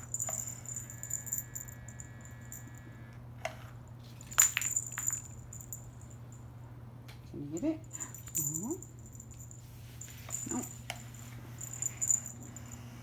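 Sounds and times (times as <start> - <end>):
light metallic jingling: 0.0 - 3.0, 3.9 - 6.6, 7.4 - 13.0
low steady hum: 0.0 - 13.0.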